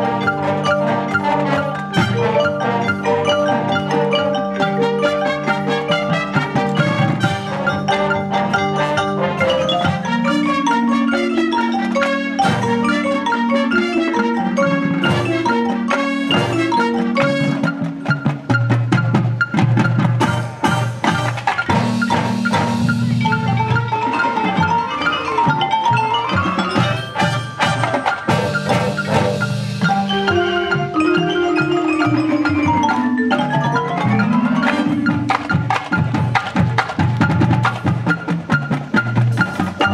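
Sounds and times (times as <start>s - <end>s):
marching band playing: 0.0s - 39.9s
marimbas playing fast notes: 0.0s - 39.9s.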